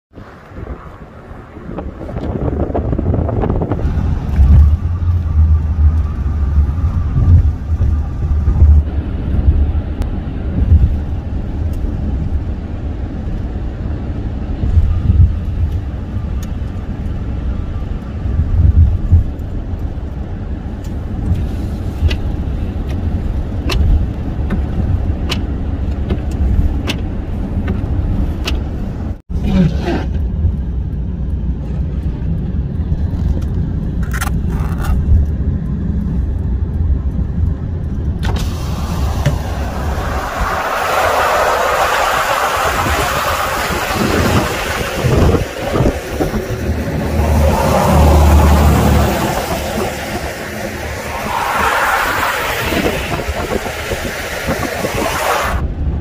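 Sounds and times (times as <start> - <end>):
wind on microphone: 0.1 - 29.2, 31.7 - 56.0
tyres rumbling on snow: 0.2 - 56.0.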